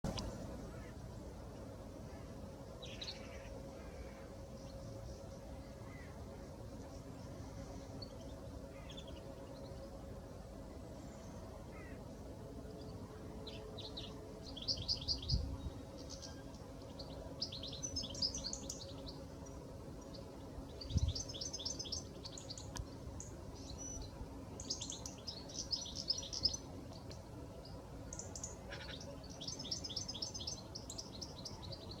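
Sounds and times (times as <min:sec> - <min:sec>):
faint steady hum: 0:00.0 - 0:32.0
songbirds chirping: 0:00.1 - 0:32.0.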